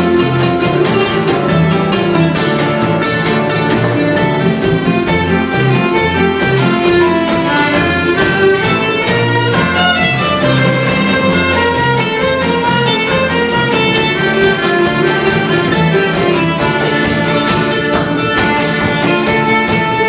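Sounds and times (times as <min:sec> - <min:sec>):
acoustic guitars strumming: 0:00.0 - 0:20.0
mandolin: 0:00.0 - 0:20.0
violin melody: 0:00.0 - 0:20.0.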